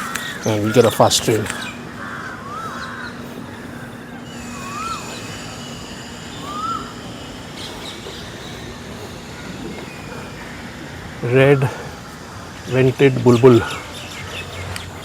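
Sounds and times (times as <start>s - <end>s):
bird calling: 0.0s - 15.0s
faint steady hum: 0.0s - 15.0s.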